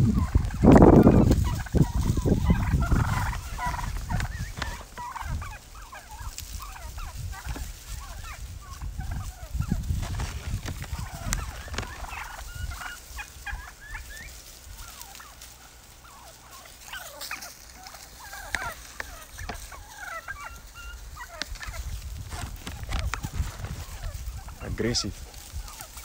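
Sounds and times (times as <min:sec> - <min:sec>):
turkeys chirping and clucking: 0:00.0 - 0:26.0
light clicks in dry leaves: 0:00.4 - 0:02.1, 0:02.8 - 0:26.0.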